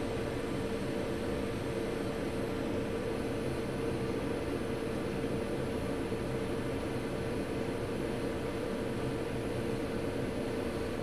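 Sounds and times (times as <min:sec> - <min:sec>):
fan hiss: 0:00.0 - 0:11.0.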